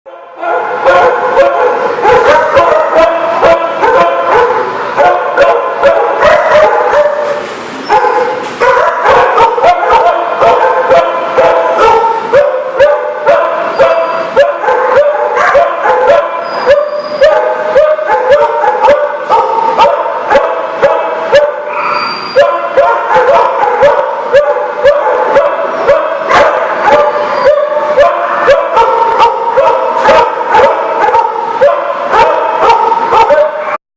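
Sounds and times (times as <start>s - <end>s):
dogs barking and yipping: 0.3s - 33.8s.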